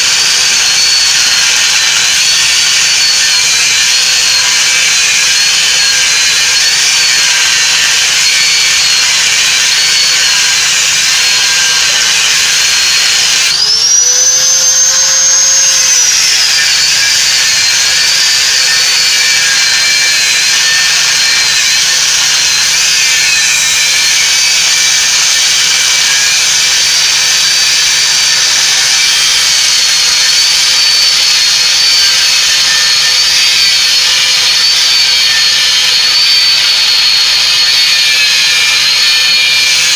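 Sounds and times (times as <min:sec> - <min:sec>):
electric power tool whining: 0:00.0 - 0:39.9.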